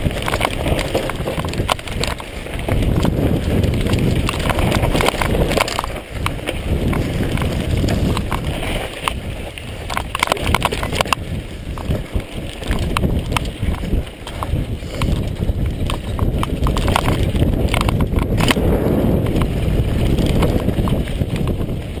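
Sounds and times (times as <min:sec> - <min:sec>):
bike rattling over loose stones: 0:00.0 - 0:22.0
wind rumble on microphone: 0:00.0 - 0:22.0.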